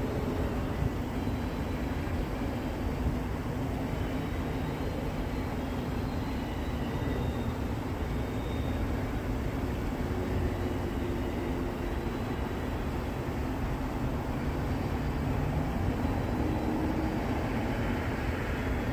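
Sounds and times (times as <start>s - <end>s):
faint high tones: 0.0s - 18.9s.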